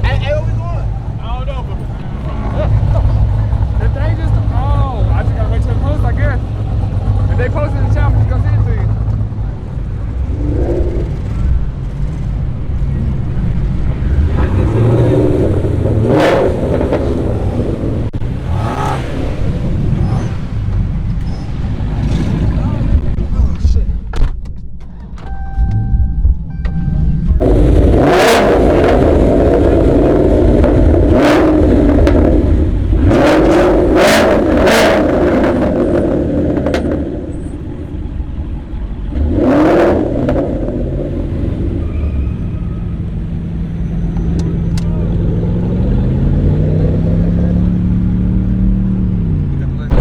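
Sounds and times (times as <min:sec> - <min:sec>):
car engine accelerating hard: 0:00.0 - 0:23.9, 0:25.7 - 0:50.0
sharp exhaust cracks: 0:02.7 - 0:45.4.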